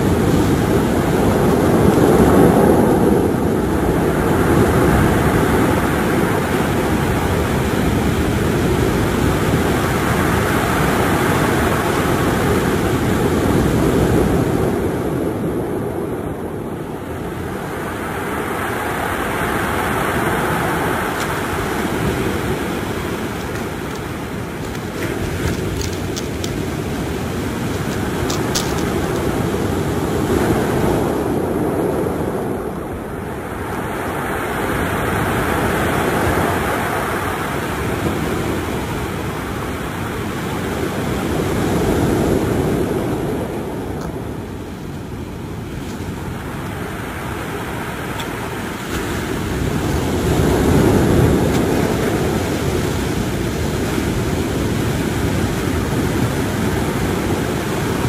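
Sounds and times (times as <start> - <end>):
surf breaking on stony beach: 0.0 - 58.0
wind buffeting microphone: 0.0 - 58.0.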